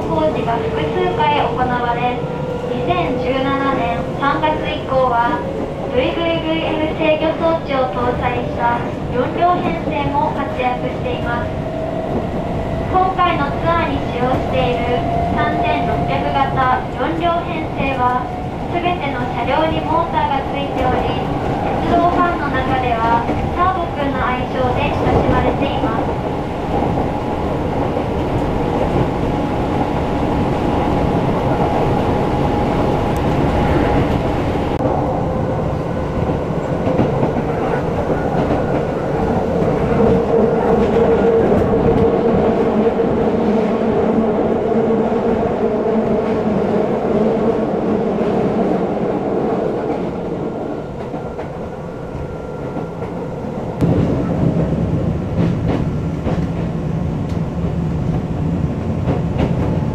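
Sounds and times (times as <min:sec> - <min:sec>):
train wheel and rail clatter: 0:00.0 - 0:59.9.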